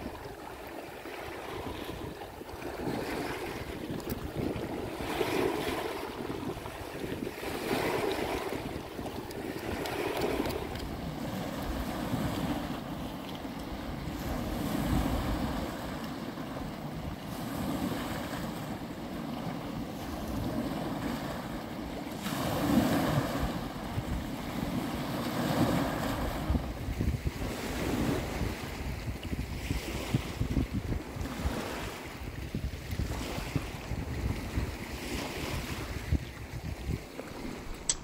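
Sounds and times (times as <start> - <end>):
waves washing over pebble beach: 0.0 - 37.9
wind buffeting microphone: 0.0 - 38.0.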